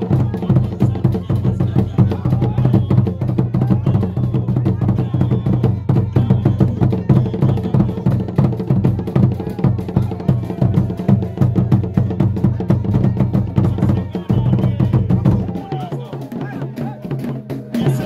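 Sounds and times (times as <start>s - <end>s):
drum ensemble playing dance rhythm: 0.0s - 18.0s.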